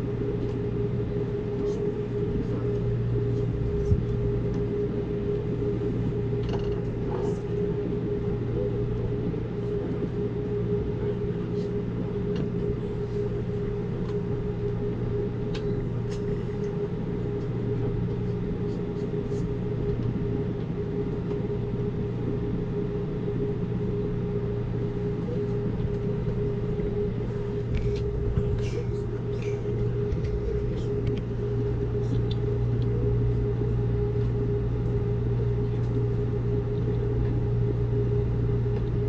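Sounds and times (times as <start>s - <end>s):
train rumble and hum: 0.0s - 39.0s.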